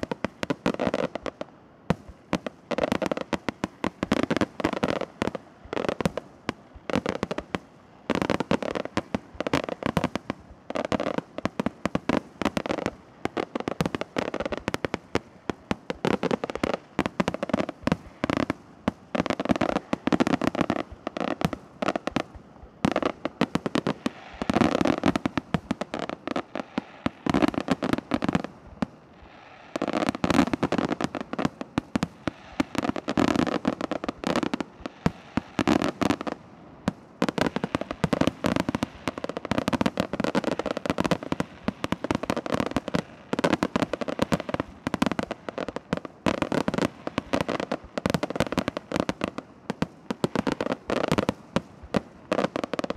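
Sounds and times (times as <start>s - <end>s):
fireworks bursts and bangs: 0.0s - 52.9s.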